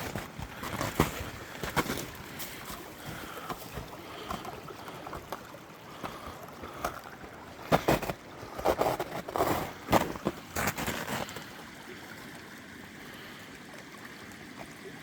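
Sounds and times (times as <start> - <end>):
creek running: 0.0 - 15.0.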